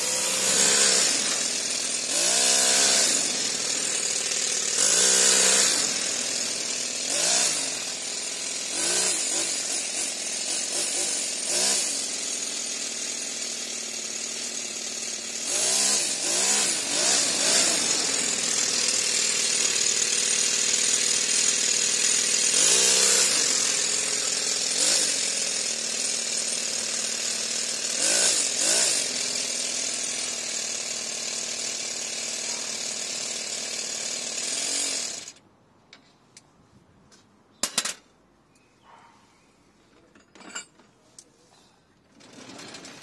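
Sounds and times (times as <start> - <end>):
model engine running: 0.0 - 35.4.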